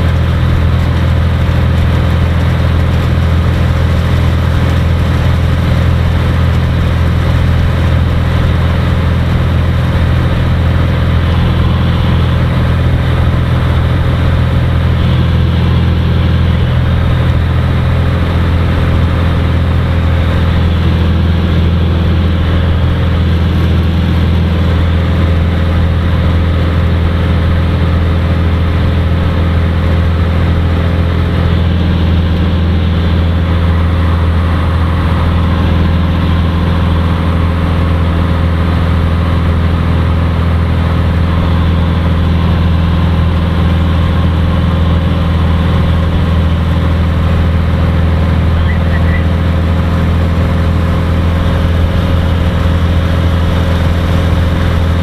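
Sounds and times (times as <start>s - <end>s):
aircraft piston engine and propeller drone: 0.0s - 55.0s.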